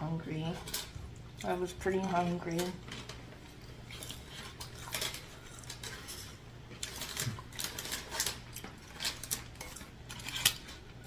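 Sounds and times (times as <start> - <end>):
chewing food: 0.6 - 11.0.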